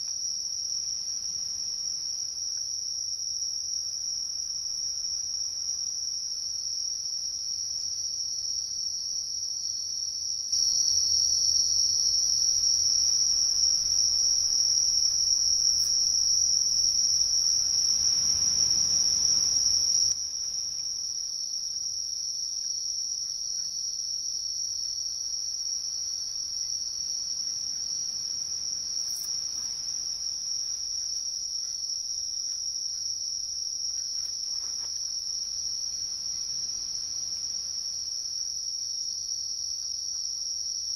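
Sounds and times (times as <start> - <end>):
insect chorus shrill drone: 0.0 - 40.9.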